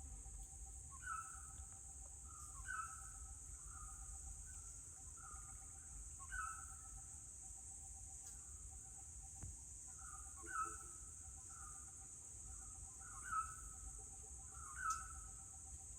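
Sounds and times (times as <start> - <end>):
bird calls: 0.0 - 7.2, 9.9 - 15.9
high insect drone: 0.0 - 15.9.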